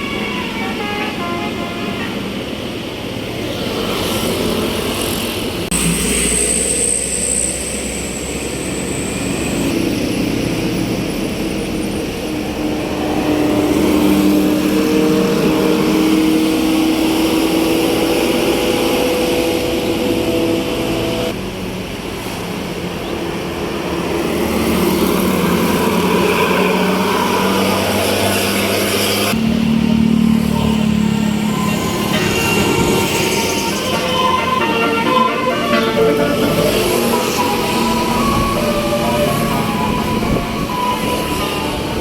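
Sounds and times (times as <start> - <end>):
bus diesel engine passing: 0.0 - 42.0.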